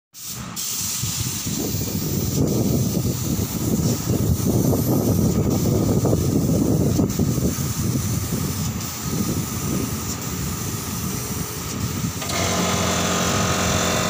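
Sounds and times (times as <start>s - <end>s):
spray gun hissing: 0.2s - 14.0s.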